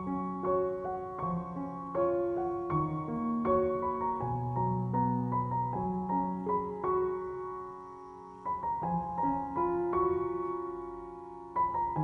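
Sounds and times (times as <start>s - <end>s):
soft slow piano music: 0.0s - 12.0s.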